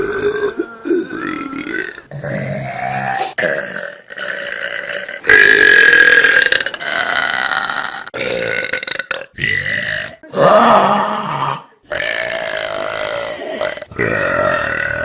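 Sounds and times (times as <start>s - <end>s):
person burping: 0.0s - 15.0s.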